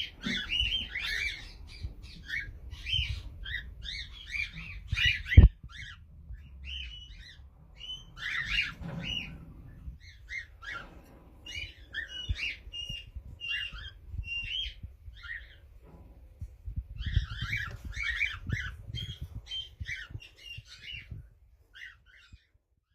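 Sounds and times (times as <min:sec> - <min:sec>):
birds chirping and squawking: 0:00.0 - 0:22.9.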